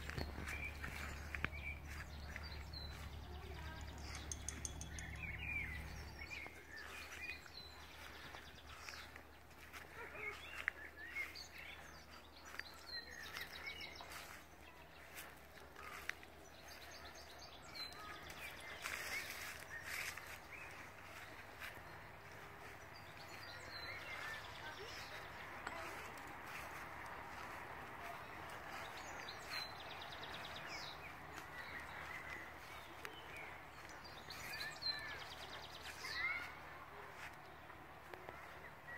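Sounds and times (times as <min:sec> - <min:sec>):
small songbird singing: 0:00.0 - 0:26.7, 0:28.4 - 0:37.4
birds chirping: 0:00.0 - 0:38.9.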